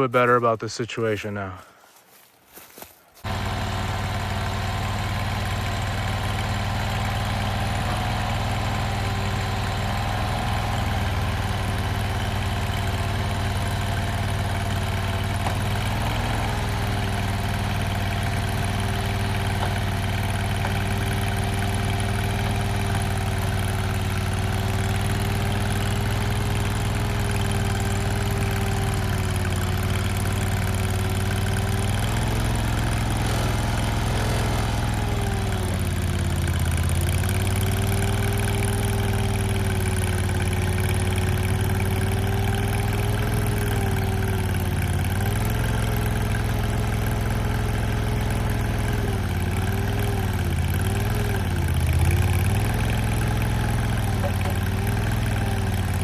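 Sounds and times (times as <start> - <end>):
skid steer engine running: 2.6 - 56.0.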